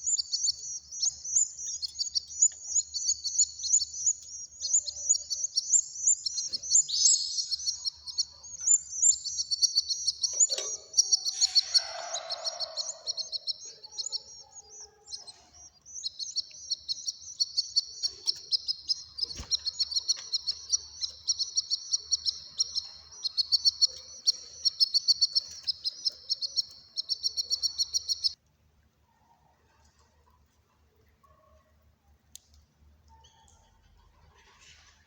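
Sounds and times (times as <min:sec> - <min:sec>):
cage birds chirping: 0:00.0 - 0:28.4, 0:33.1 - 0:35.0.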